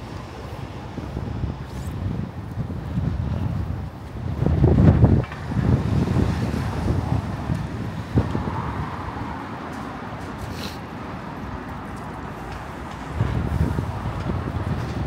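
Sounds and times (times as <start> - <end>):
street traffic rumble: 0.0 - 15.0
wind gusting on microphone: 0.0 - 15.0.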